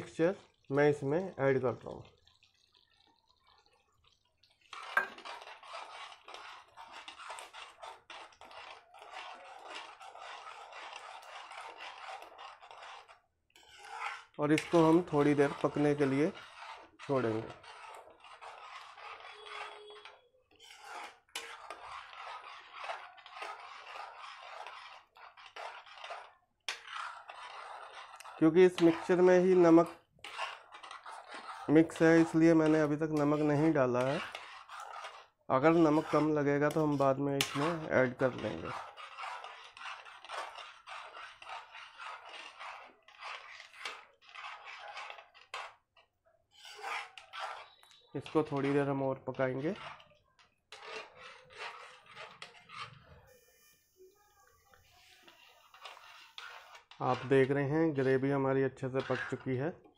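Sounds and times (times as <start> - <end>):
metal spoon scraping pan: 0.0 - 59.9.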